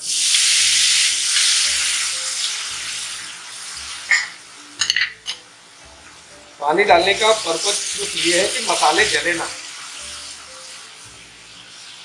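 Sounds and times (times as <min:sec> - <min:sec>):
water hissing in hot wok: 0:00.0 - 0:12.0.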